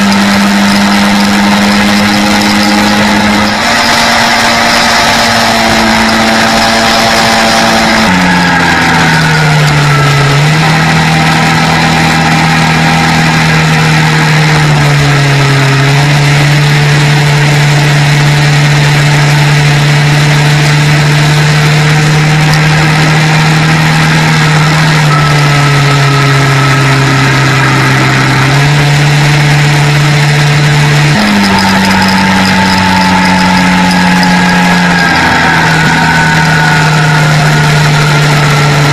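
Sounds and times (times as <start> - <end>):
quad bike engine running: 0.0 - 38.9
road and wind noise: 0.0 - 38.9.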